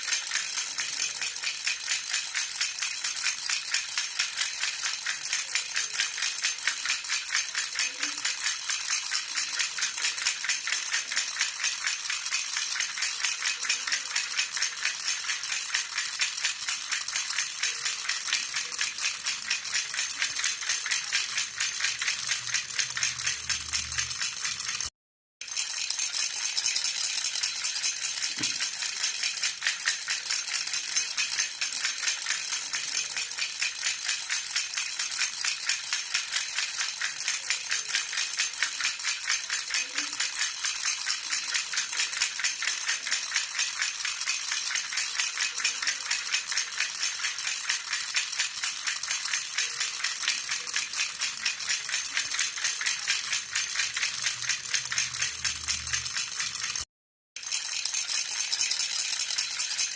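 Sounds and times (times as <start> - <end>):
baby rattle jingling: 0.0 - 24.9, 25.5 - 59.9.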